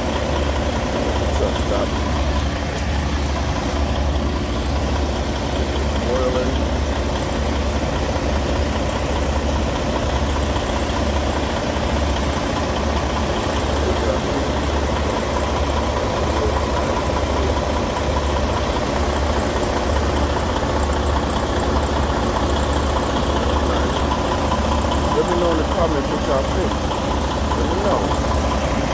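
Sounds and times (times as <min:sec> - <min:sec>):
diesel truck engine idling: 0:00.0 - 0:28.9.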